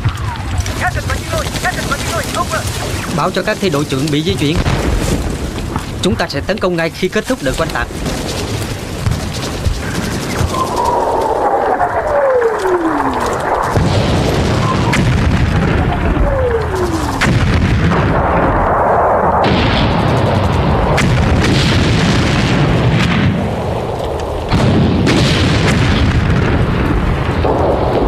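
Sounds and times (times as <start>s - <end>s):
rolling rumble of explosions: 0.0s - 28.0s
sharp cracks and blasts: 0.0s - 28.0s.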